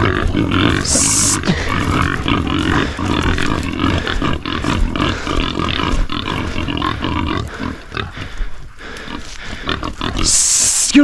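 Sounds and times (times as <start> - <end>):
pigs grunting and squealing: 0.0 - 11.0.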